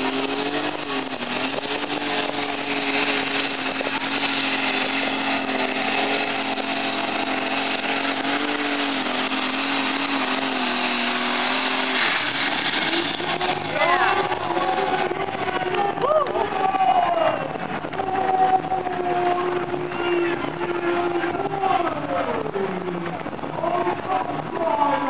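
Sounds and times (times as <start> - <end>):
tractor engine revving high: 0.0 - 25.0.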